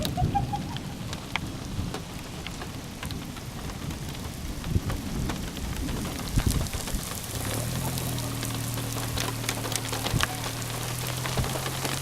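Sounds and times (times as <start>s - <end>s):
rain falling: 0.0s - 12.0s
raindrops ticking: 0.0s - 12.0s
thunder rumbling: 0.0s - 12.0s.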